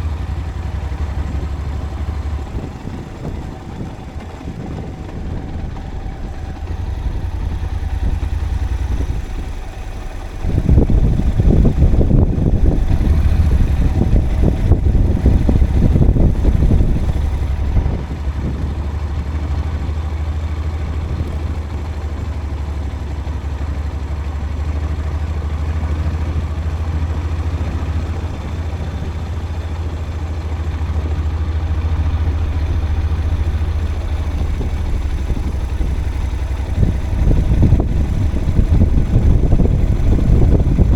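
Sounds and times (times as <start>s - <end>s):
vehicle rumble on forest road: 0.0s - 40.9s.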